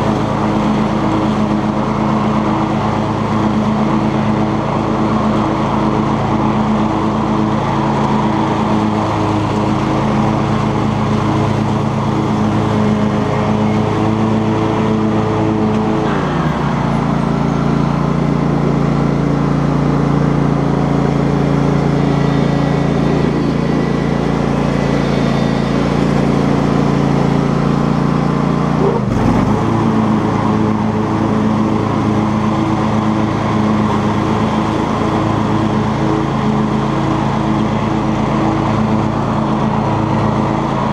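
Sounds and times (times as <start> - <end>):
lawn tractor engine mowing grass: 0.0 - 40.9.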